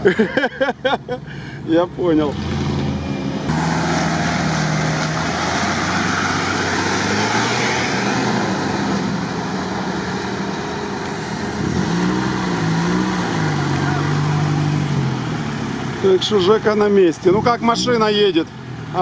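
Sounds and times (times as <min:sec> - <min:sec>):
engine revving: 0:02.1 - 0:19.0.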